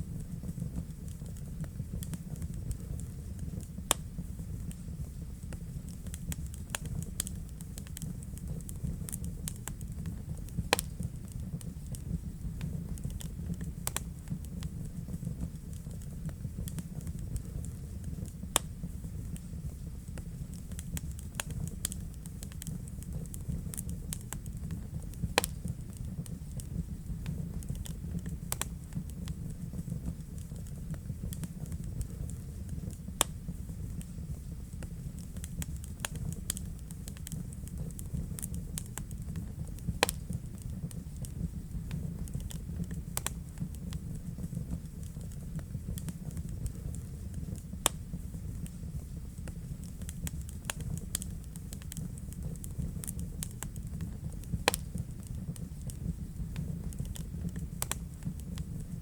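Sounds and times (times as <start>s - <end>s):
fire flames rumbling: 0.0s - 59.0s
wood fire crackling and popping: 0.0s - 59.0s.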